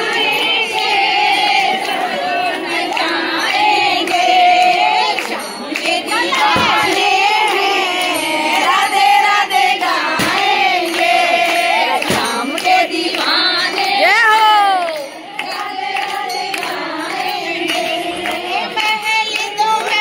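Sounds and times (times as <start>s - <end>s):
women singing chant in unison: 0.0s - 20.0s.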